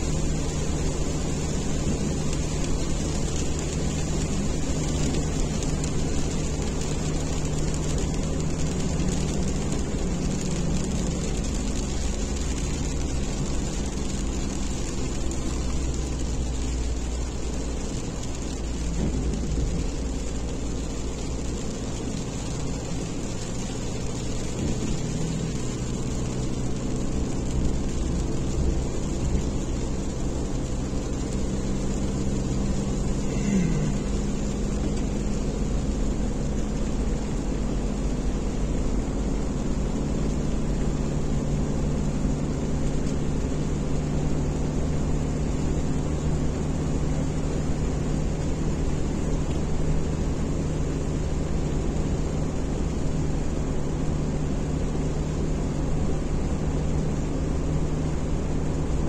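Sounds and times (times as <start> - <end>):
car engine drone: 0.0 - 59.0
rain: 0.0 - 59.0
road and tyre noise: 0.0 - 59.0.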